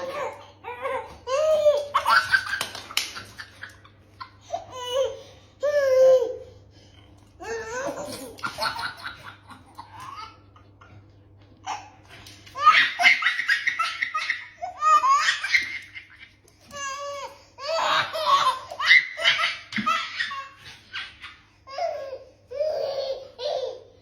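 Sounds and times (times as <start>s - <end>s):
baby laughing: 0.0s - 6.2s, 7.4s - 11.0s, 11.6s - 24.0s.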